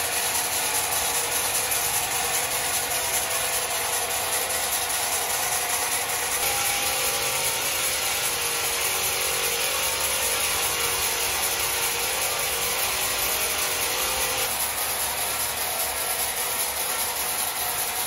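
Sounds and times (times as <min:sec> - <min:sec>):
saw cutting through wood: 0:00.0 - 0:18.0.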